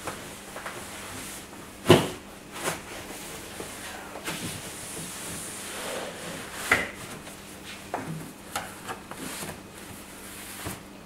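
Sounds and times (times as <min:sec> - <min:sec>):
bedding rustling and sliding: 0:00.0 - 0:11.0.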